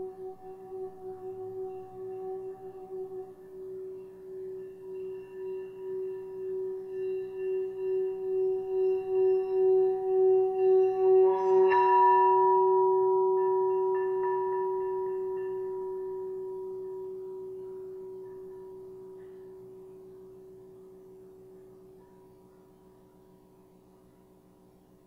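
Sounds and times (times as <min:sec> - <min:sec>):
singing bowl tone: 0:00.0 - 0:25.0.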